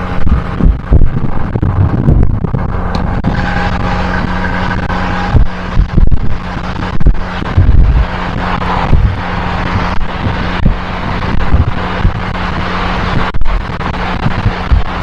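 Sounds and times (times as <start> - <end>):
car engine driving: 0.0 - 15.0
wind buffeting microphone: 0.0 - 15.0.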